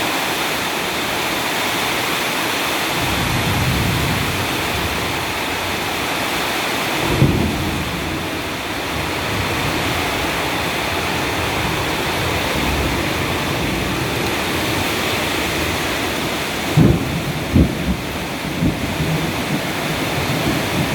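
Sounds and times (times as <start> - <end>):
heavy rain pouring: 0.0 - 20.9.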